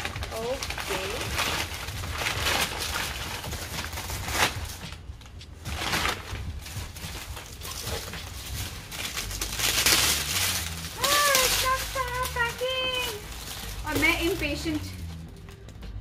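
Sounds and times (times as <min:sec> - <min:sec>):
wrapping paper rustling and crinkling: 0:00.0 - 0:16.0.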